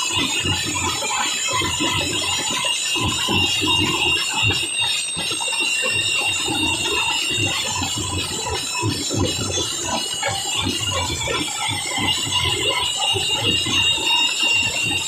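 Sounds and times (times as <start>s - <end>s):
steady high ringing: 0.0s - 15.0s.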